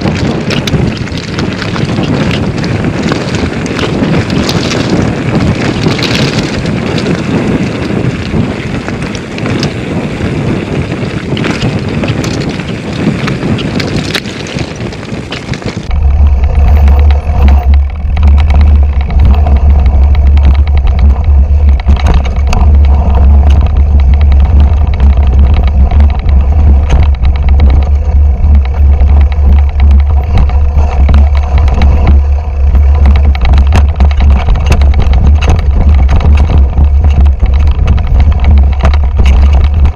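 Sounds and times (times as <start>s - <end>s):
sharp clicks and knocks: 0.0s - 7.5s, 11.3s - 39.9s
heavy low rumble: 0.0s - 39.9s
mountain bike rattling: 0.0s - 39.9s
wind buffeting microphone: 0.0s - 39.9s.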